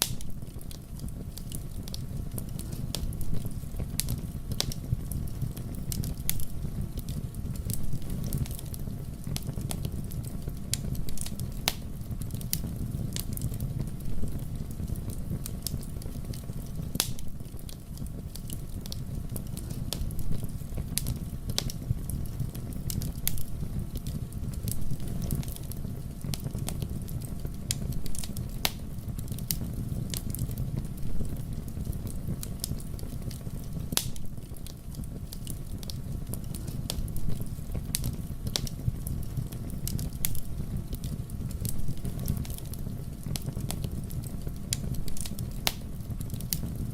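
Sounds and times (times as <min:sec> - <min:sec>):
fire crackling in fireplace: 0:00.0 - 0:46.9.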